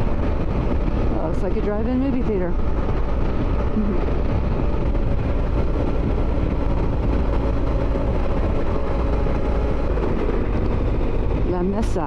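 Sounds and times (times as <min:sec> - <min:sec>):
motorcycle engine droning: 0:00.0 - 0:12.0
wind buffeting microphone: 0:00.0 - 0:12.0.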